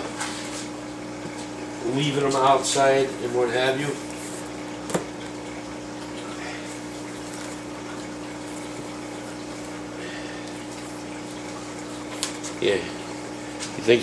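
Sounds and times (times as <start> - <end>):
aquarium pumps humming: 0.0 - 14.0
moving water: 0.0 - 14.0.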